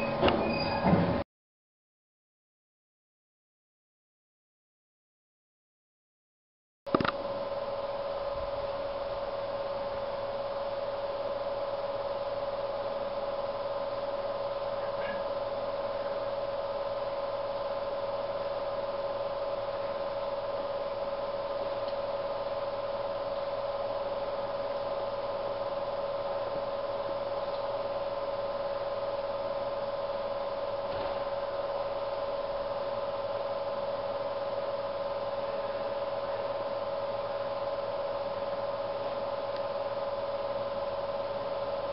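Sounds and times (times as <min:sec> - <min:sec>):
electrical hum with whine: 0:00.0 - 0:01.0, 0:06.9 - 0:41.9.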